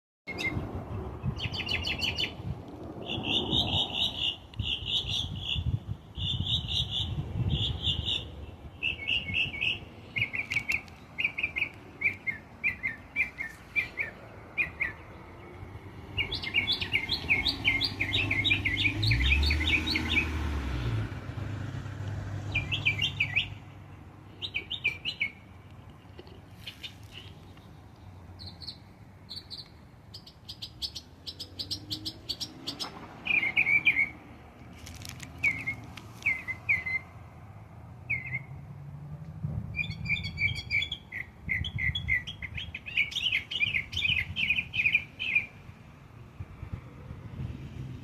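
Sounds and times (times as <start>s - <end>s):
songbird chirping: 0.3s - 38.7s, 39.8s - 45.7s.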